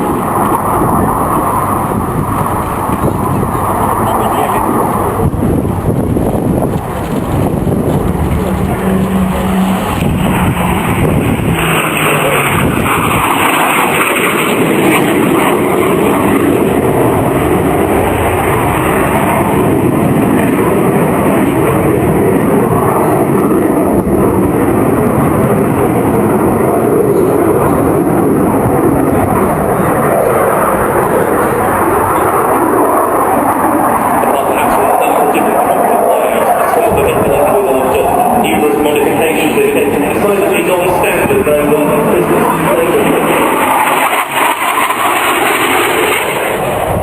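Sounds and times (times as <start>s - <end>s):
jet engine roar: 0.0s - 47.0s.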